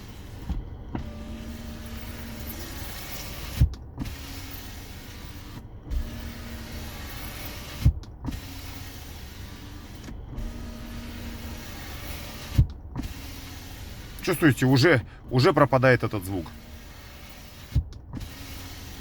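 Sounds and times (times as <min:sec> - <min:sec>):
power window motor whirring: 0:00.0 - 0:19.0.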